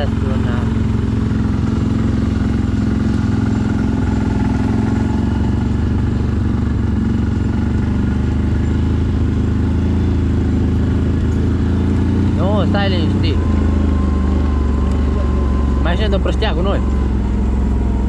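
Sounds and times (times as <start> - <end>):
atv engine running steadily: 0.0 - 18.0.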